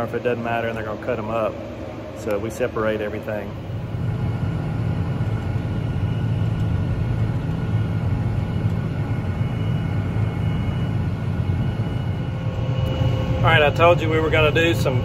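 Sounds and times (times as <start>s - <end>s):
high-pitched whines: 0.0s - 15.0s.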